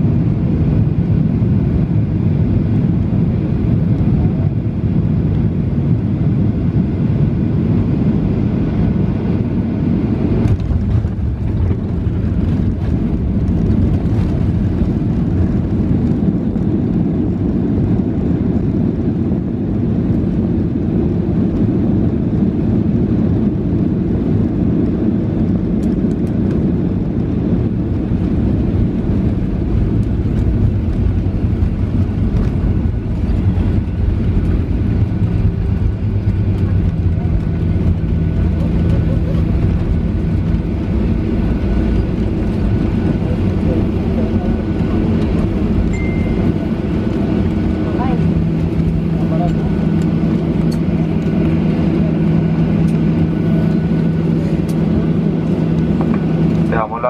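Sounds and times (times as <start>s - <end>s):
airflow and engine rumble in cabin: 0.0s - 57.0s.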